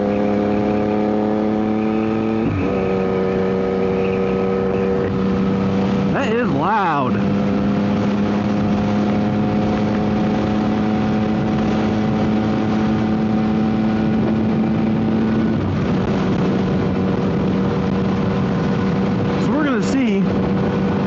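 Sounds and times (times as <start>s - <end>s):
wind noise on microphone: 0.0s - 6.2s, 7.1s - 21.0s
motorcycle engine droning: 0.0s - 21.0s.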